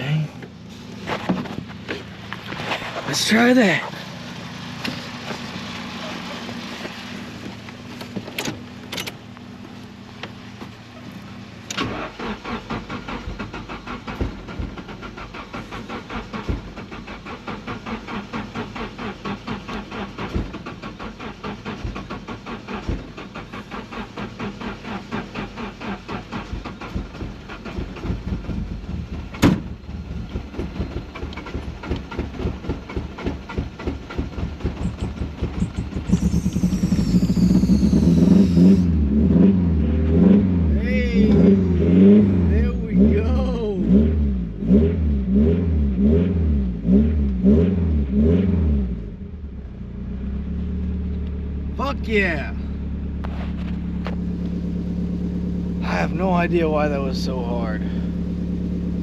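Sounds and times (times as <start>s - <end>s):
engine cranking by starter: 0.4s - 9.3s, 11.6s - 49.1s, 50.0s - 59.0s.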